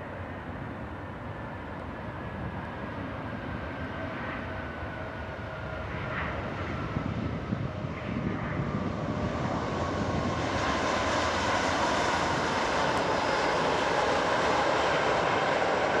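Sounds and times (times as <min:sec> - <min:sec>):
jet engines roaring: 0:02.2 - 0:16.0.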